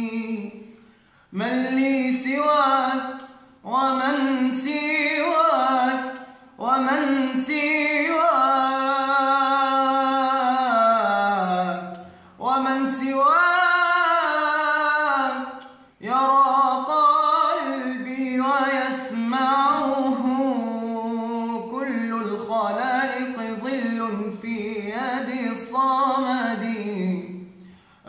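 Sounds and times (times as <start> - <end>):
man singing unaccompanied: 0.0 - 27.7.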